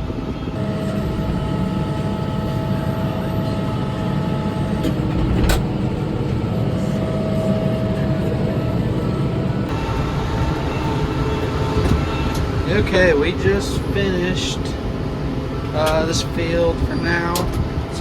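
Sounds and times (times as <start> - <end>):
steady whine: 0.0 - 18.0
tractor diesel engine under load: 0.0 - 18.0.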